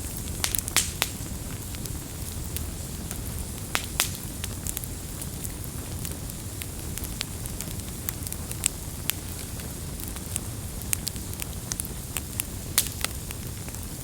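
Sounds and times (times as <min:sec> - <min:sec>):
campfire rumbling: 0:00.0 - 0:14.0
fire crackles and pops: 0:00.0 - 0:14.0.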